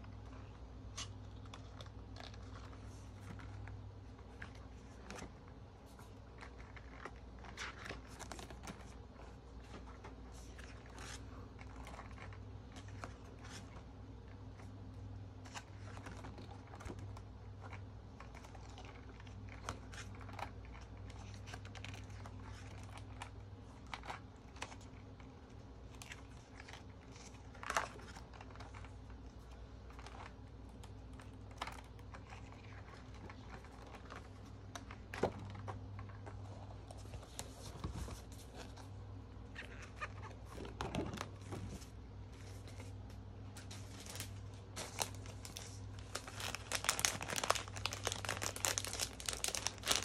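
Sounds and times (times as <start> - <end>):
calendar pages turning: 0.0 - 14.7, 15.4 - 50.0.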